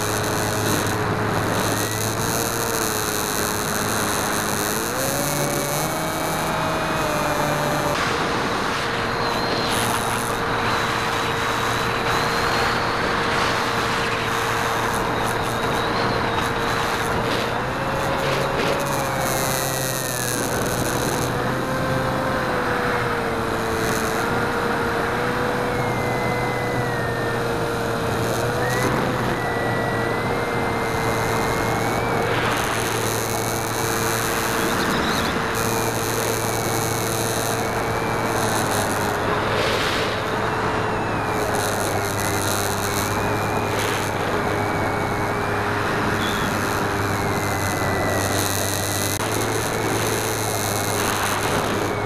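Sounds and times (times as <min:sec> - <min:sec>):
electric motor and propeller whine: 0:00.0 - 0:52.0
rushing airflow noise: 0:03.3 - 0:52.0.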